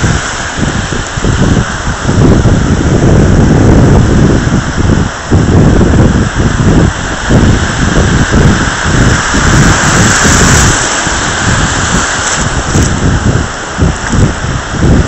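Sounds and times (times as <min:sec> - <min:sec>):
surf breaking: 0:00.0 - 0:15.0
wind buffeting the microphone: 0:00.0 - 0:15.0.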